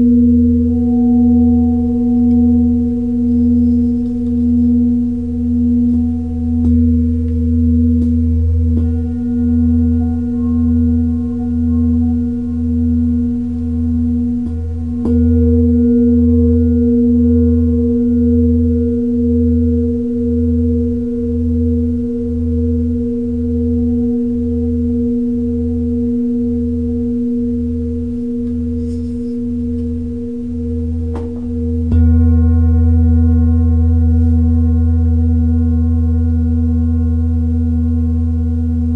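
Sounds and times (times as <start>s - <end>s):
metal singing bowl ringing: 0.0s - 38.9s.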